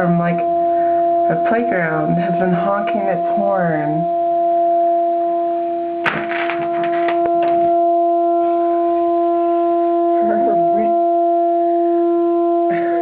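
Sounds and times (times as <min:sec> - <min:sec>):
car horn steady note: 0:00.0 - 0:13.0.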